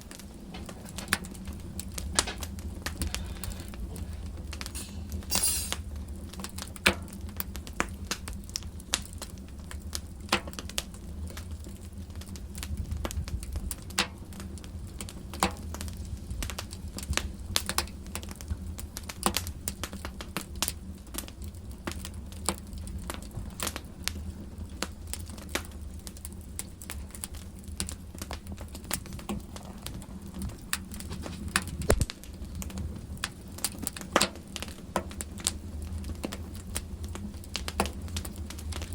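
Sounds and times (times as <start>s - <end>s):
low steady fire rumble: 0.0s - 38.9s
wood fire crackling and popping: 0.0s - 38.9s.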